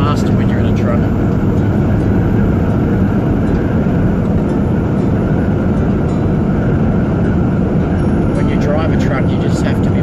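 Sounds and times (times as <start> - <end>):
truck engine and tyre drone: 0.0 - 10.0.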